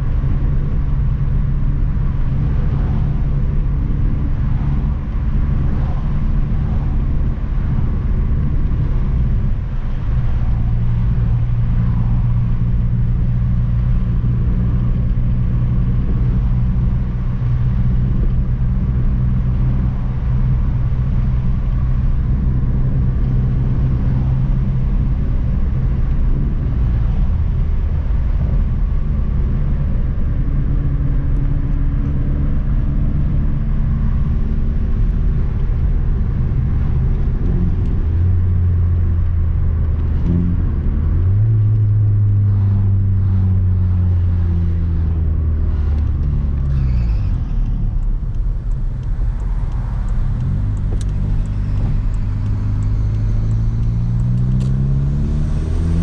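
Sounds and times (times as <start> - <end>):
car engine drone from inside cabin: 0.0 - 56.0.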